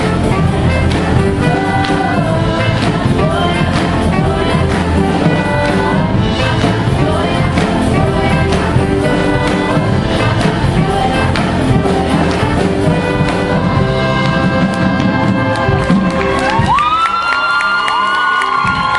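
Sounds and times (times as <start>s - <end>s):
choir singing: 0.0s - 15.6s
band playing with steady beat: 0.0s - 18.9s.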